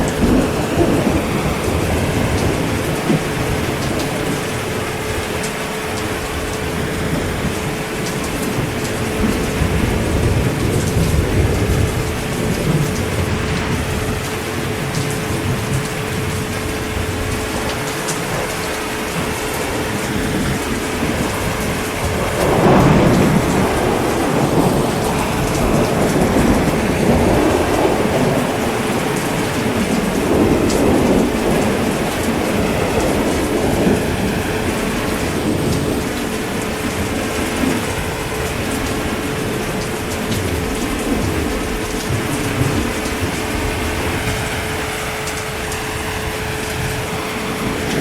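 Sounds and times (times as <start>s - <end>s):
heavy rain: 0.0s - 48.0s
thunder rumbling: 0.0s - 48.0s.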